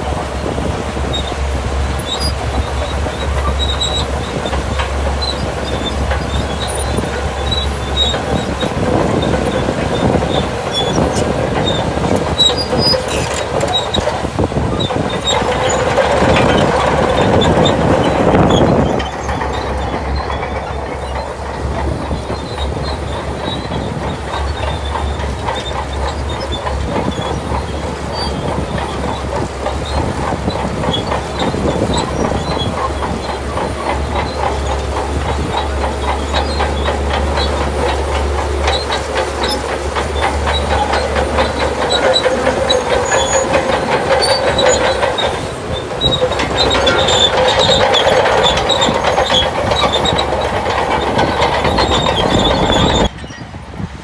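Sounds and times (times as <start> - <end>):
diesel engine under load: 0.0 - 54.0
steel tracks clanking and squealing: 0.0 - 54.0.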